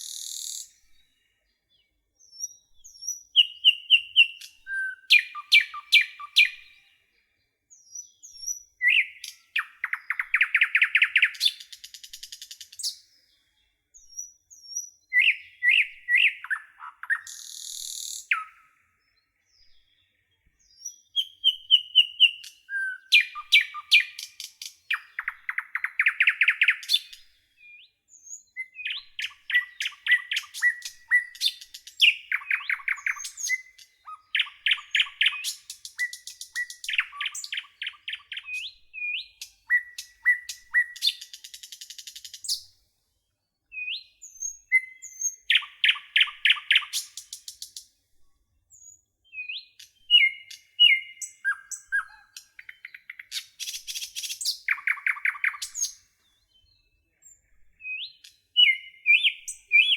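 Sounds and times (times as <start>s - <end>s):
songbirds singing trills: 0.0s - 59.9s.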